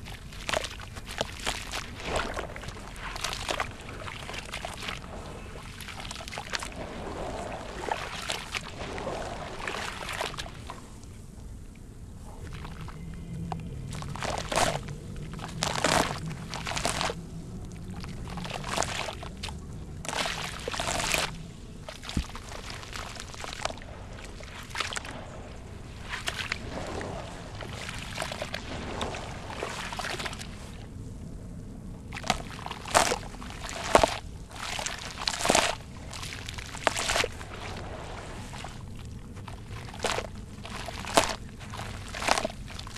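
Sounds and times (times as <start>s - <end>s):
splashing and sloshing water: 0.0s - 42.9s.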